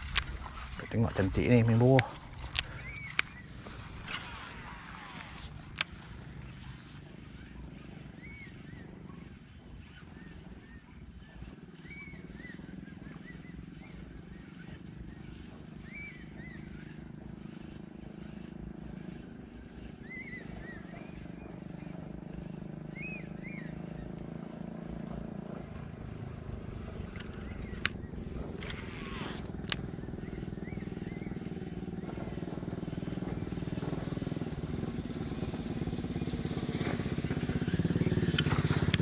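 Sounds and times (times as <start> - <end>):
steady low rumble: 0.0 - 36.1.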